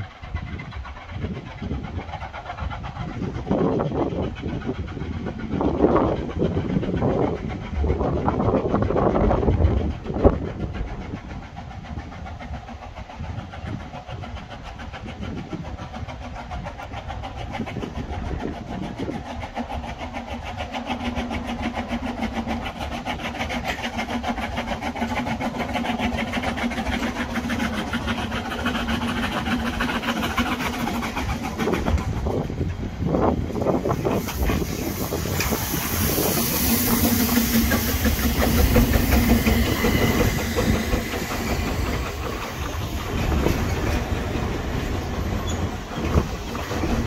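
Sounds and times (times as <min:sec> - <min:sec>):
steam train arriving: 0:00.0 - 0:47.0.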